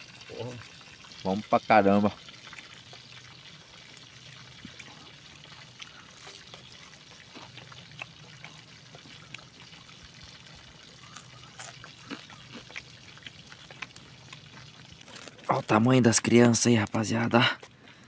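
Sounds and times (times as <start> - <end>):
water trickling: 0.0 - 18.0.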